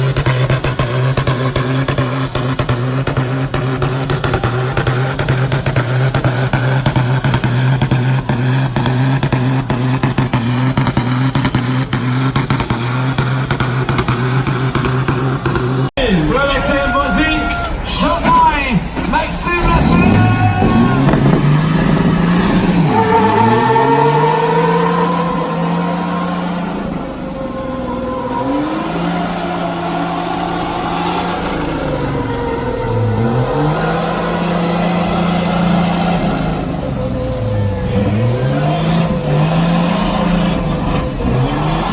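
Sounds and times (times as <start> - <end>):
truck engines droning: 0.0 - 41.9.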